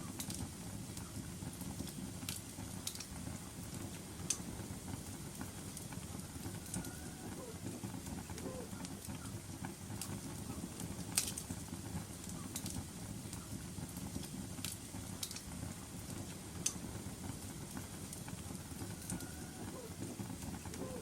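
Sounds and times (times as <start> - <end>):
fire crackling with sharp pops: 0.0 - 21.0
fireplace fire rushing: 0.0 - 21.0.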